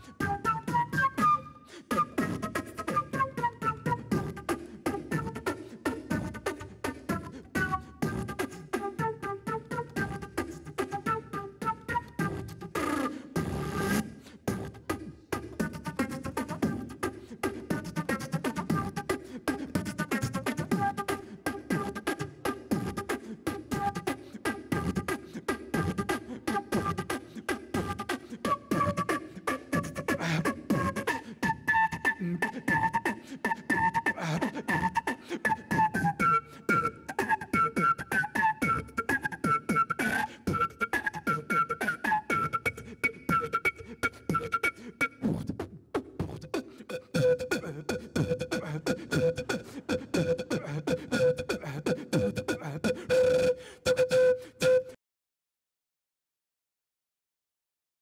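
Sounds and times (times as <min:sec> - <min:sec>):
vocal percussion beat: 0:00.0 - 0:09.2, 0:12.0 - 0:55.0
flute-like melody: 0:00.0 - 0:14.8, 0:15.4 - 0:55.0.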